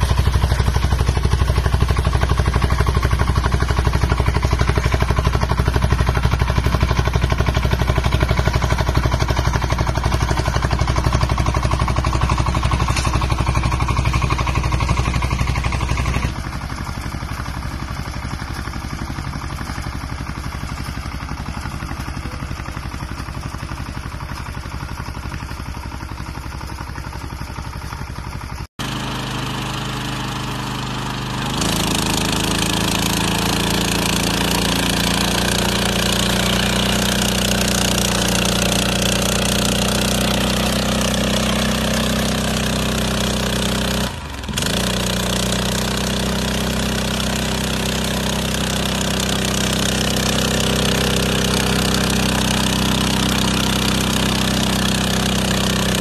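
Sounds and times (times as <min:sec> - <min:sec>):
small engine running: 0:00.0 - 0:56.0
tiller engine running: 0:00.0 - 0:56.0.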